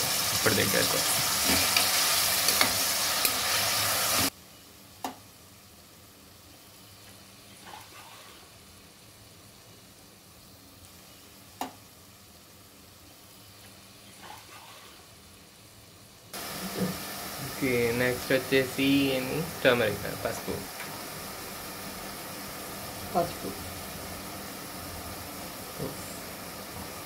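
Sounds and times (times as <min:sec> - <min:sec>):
faint hiss: 0:00.0 - 0:27.0
tomatoes sizzling in hot oil: 0:00.0 - 0:27.0.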